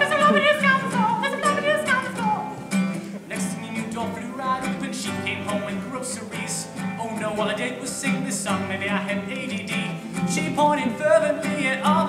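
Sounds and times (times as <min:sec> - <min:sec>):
person singing: 0:00.0 - 0:02.6, 0:03.2 - 0:12.0
classical guitar strumming: 0:00.0 - 0:12.0.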